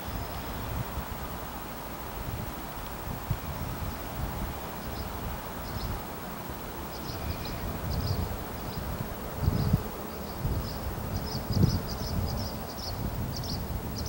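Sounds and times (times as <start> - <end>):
wind gusts on microphone: 0.0 - 14.0.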